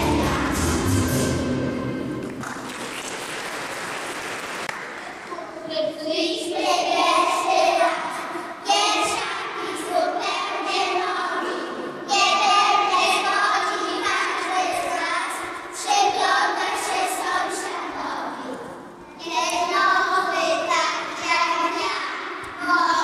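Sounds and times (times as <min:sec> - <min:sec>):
children singing in unison: 0:00.0 - 0:01.6, 0:06.1 - 0:23.0.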